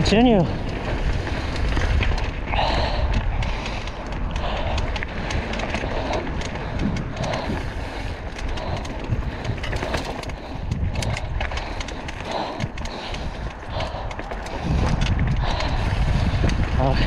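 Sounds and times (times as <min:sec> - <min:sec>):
bike rattling clicks and knocks: 0:00.0 - 0:17.0
wind rumble on microphone: 0:00.0 - 0:17.0.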